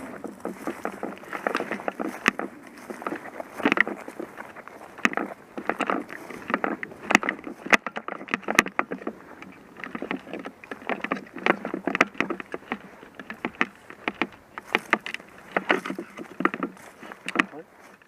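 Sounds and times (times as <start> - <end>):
rustling and crunching: 0.0 - 18.0.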